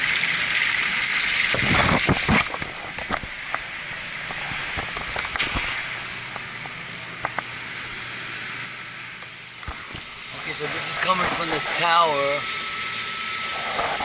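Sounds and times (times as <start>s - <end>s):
water hissing into cooling tower: 0.0s - 14.0s.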